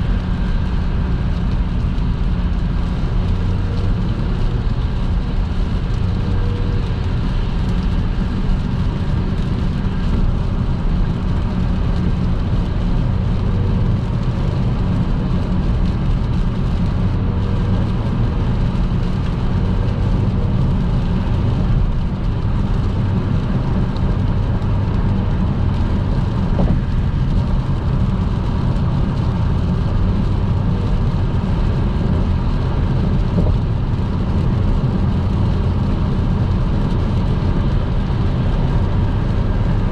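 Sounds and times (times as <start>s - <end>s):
car engine and tyre drone: 0.0s - 39.9s
tyres hissing on wet road: 0.0s - 39.9s.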